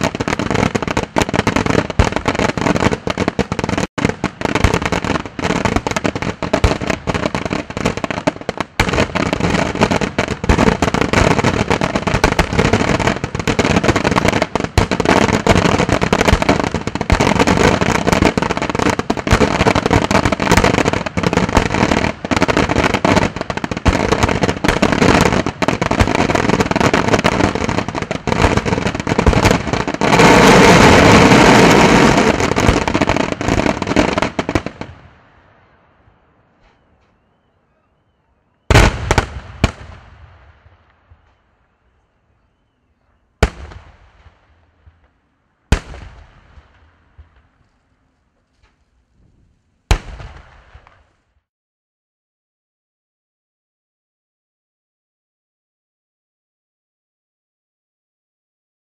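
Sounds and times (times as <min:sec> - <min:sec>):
fireworks bursting: 0:00.0 - 0:35.8, 0:36.4 - 0:47.8, 0:48.4 - 0:51.4.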